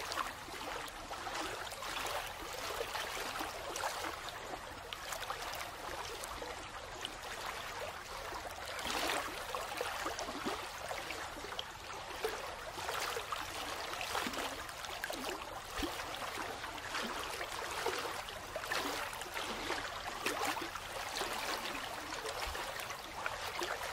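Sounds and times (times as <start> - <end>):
running water bubbling: 0.0 - 23.9.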